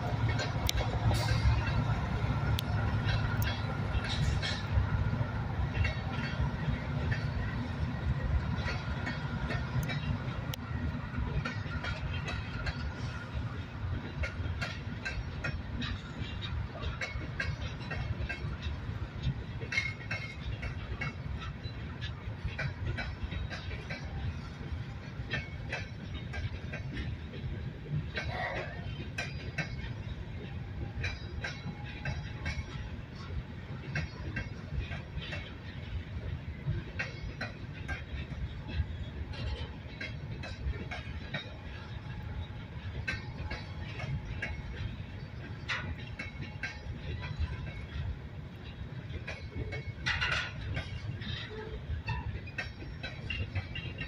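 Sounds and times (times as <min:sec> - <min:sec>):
train wheels rumbling on rails: 0:00.0 - 0:54.0
wheels clanking over rail joints: 0:00.0 - 0:54.0.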